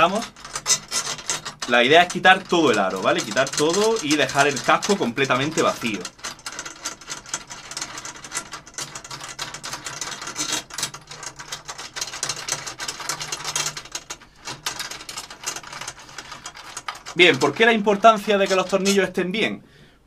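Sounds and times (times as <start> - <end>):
drum tension rods clicking and rattling: 0.0 - 19.3.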